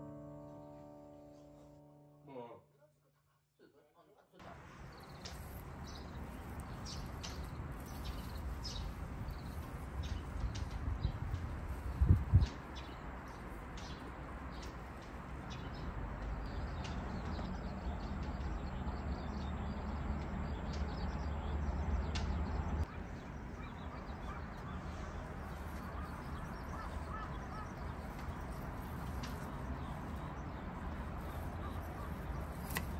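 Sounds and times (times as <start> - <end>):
birds chirping: 4.4 - 32.9.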